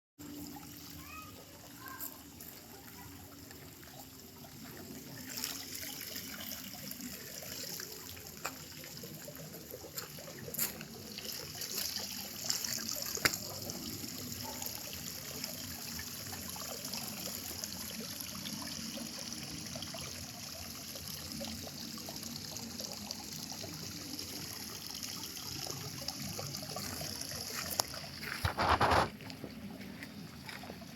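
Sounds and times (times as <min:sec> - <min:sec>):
water trickling into pond: 0:00.2 - 0:30.9.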